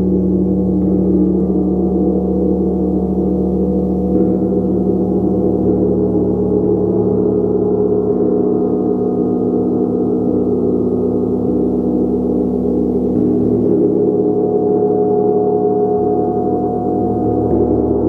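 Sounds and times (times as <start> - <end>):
gong sustained wash: 0.0 - 18.0.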